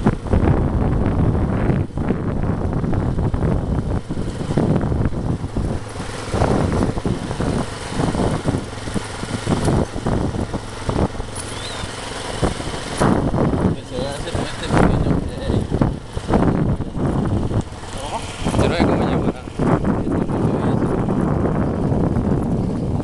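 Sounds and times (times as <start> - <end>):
vehicle engine running: 0.0 - 23.0
vehicle jolts and rattles: 0.0 - 23.0.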